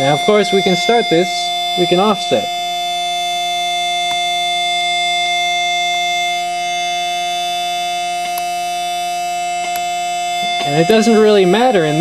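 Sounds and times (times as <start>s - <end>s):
synthesizer steady tone: 0.0s - 12.0s.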